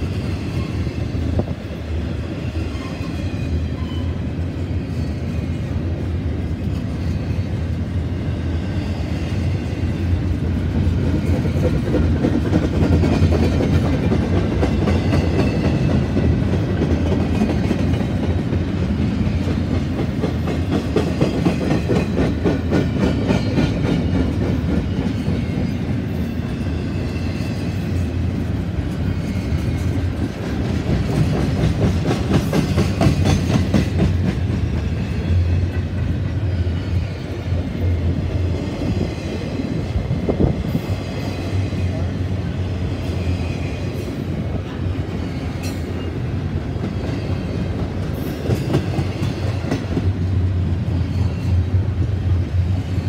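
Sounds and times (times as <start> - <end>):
freight train wheels rumbling: 0.0 - 53.0
wheels clickety-clack on rail joints: 0.0 - 53.0.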